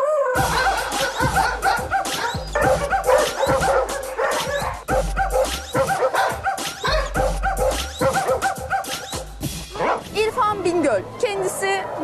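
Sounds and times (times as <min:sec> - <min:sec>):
background music: 0:00.0 - 0:12.0
dogs barking: 0:00.4 - 0:10.1.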